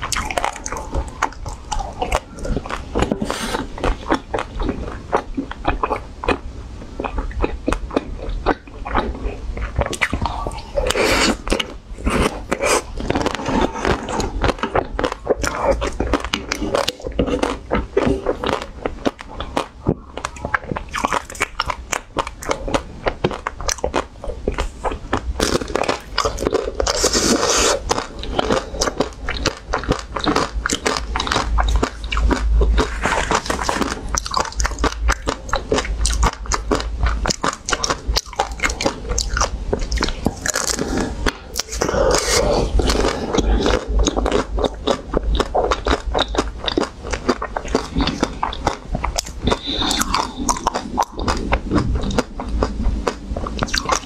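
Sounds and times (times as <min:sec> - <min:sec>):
chewing: 0:00.0 - 0:54.0
crunching hard ice cream coating: 0:00.0 - 0:54.0.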